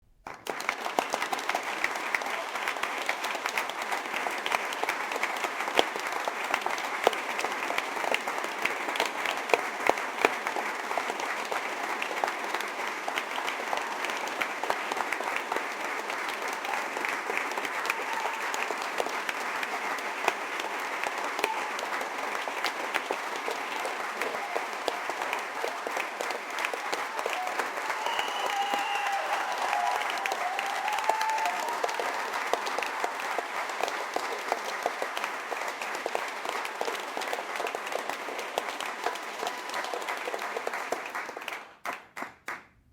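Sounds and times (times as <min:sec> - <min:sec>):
audience applauding: 0:00.2 - 0:42.7.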